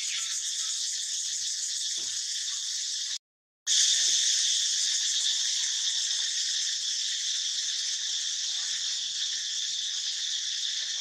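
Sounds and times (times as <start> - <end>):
insect chorus: 0.0 - 11.0.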